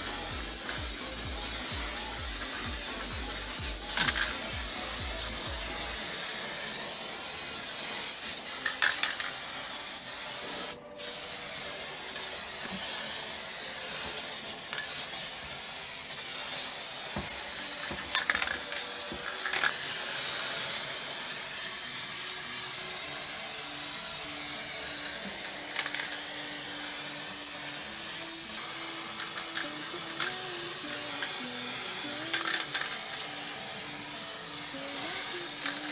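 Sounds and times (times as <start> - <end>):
spray paint can hissing: 0.0 - 35.9.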